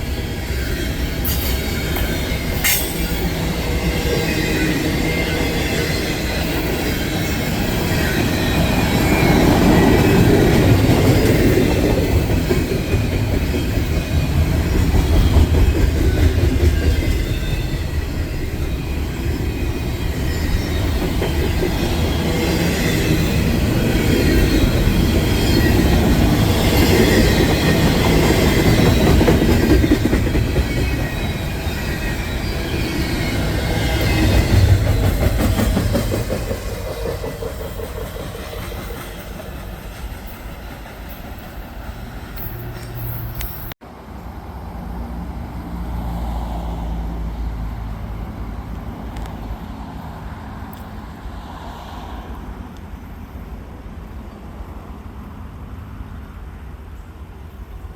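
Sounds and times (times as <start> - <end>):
train rumbling past: 0.0 - 57.9.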